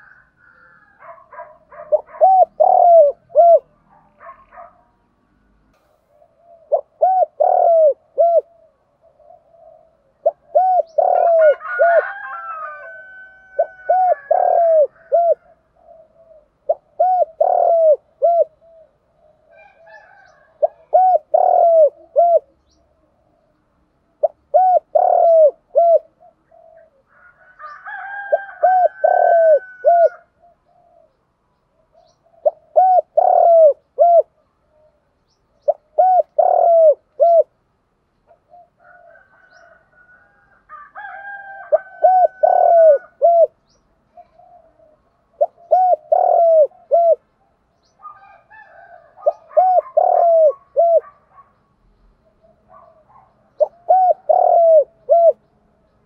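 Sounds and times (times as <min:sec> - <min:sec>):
dove cooing: 0:00.0 - 0:04.9, 0:06.1 - 0:37.6, 0:38.3 - 0:47.3, 0:47.9 - 0:51.6, 0:52.2 - 0:55.5.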